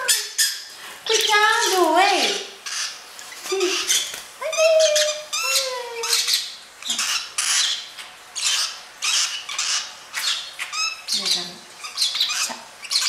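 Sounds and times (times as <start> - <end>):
lovebirds squawking: 0.0 - 13.0.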